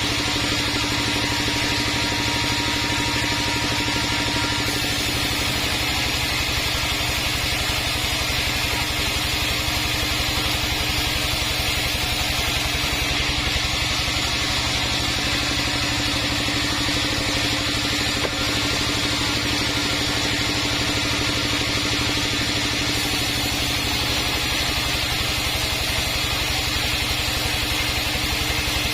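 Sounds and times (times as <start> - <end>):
bandsaw machinery running: 0.0 - 28.9.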